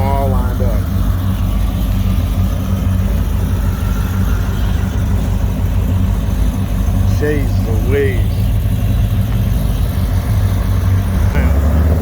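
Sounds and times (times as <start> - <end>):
car engines idling: 0.0 - 12.0.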